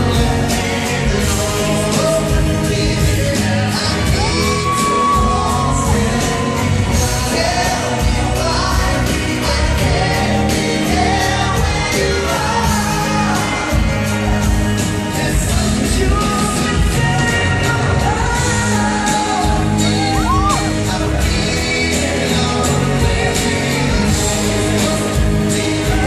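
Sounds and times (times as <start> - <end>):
acoustic guitar and band: 0.0 - 26.0
men singing into microphones: 0.0 - 26.0.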